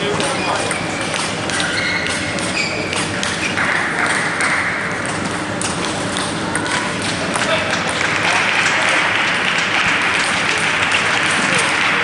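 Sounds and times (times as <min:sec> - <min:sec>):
table tennis ball clicking: 0:00.2 - 0:12.0.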